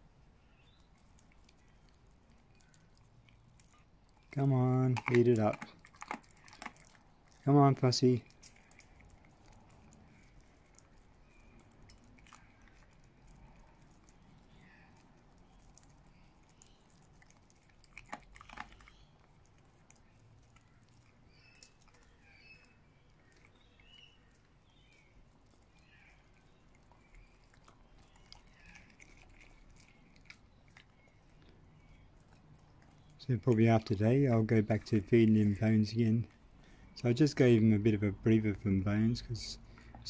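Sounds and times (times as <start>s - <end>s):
dog chewing wetly: 0.0s - 40.0s.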